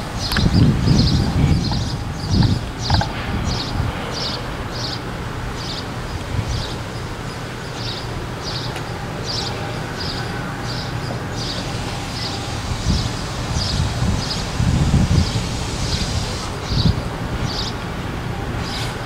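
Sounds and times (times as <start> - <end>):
diesel locomotive rumbling: 0.0 - 19.0.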